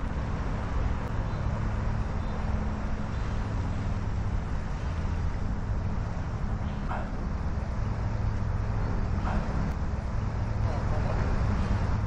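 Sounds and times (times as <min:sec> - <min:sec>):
churning water rushing: 0:00.0 - 0:12.0.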